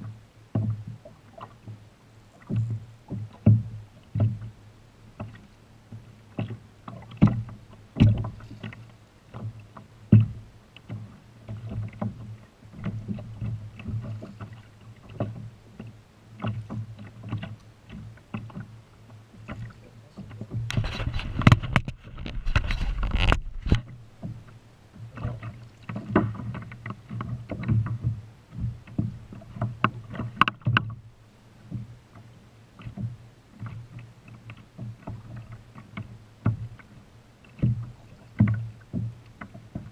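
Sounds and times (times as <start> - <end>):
water slapping against kayak hull: 0.0 - 39.9.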